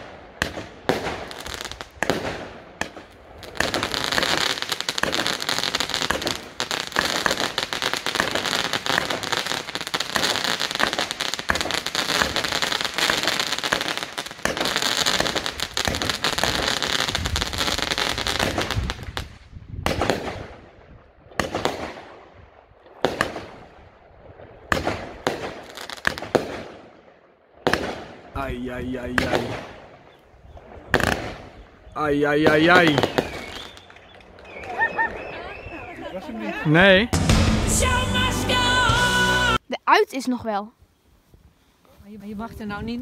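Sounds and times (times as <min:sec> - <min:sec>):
fireworks crackling and banging: 0:00.0 - 0:20.8, 0:21.4 - 0:23.8, 0:24.7 - 0:26.9, 0:27.6 - 0:35.6, 0:37.0 - 0:39.6.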